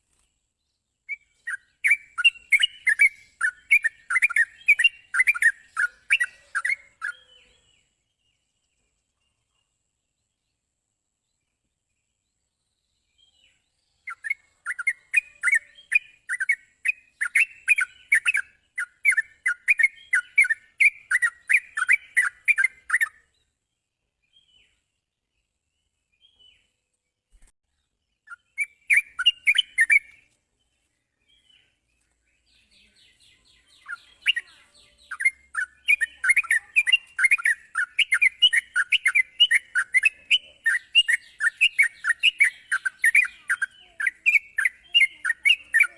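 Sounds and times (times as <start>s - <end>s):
bird rapid chirping song: 0.0s - 9.7s, 11.4s - 45.9s.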